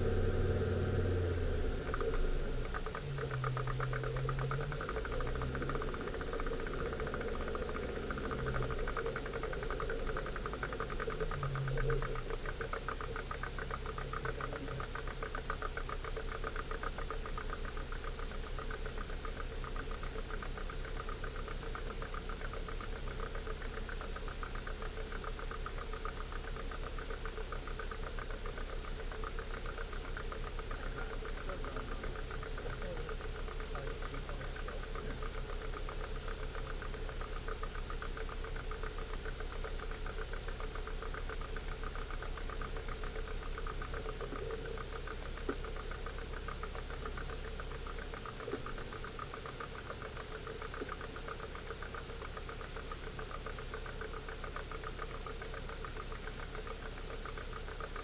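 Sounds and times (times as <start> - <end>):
engine idling: 0.0 - 58.0
faint clicks: 0.0 - 58.0.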